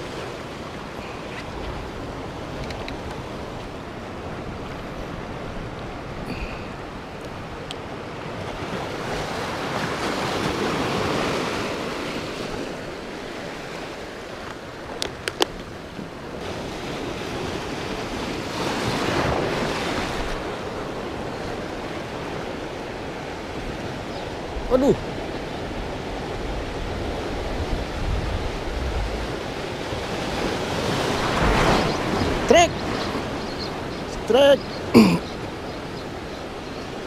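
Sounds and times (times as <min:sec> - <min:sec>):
sea waves washing: 0:00.0 - 0:37.0
wind blowing across microphone: 0:00.0 - 0:37.0.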